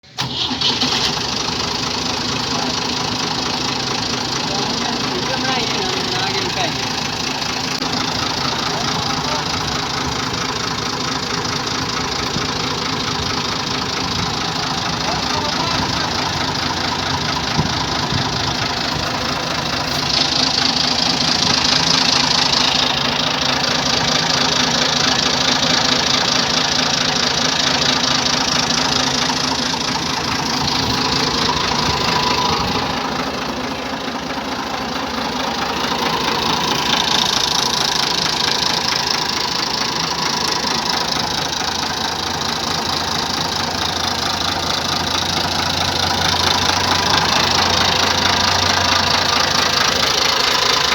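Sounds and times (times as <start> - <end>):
tractor engine idling: 0.0 - 50.9.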